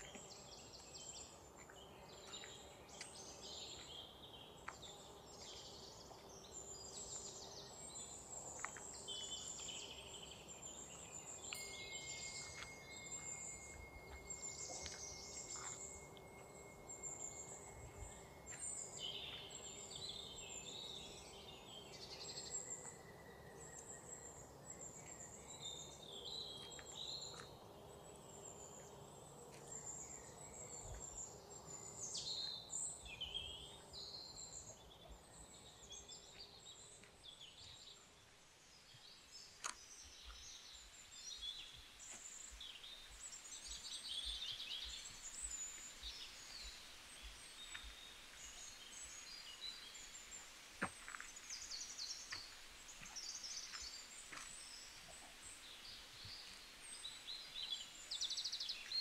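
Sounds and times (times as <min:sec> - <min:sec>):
faint outdoor background: 0:00.0 - 0:59.0
small birds singing and chirping: 0:00.0 - 0:59.0.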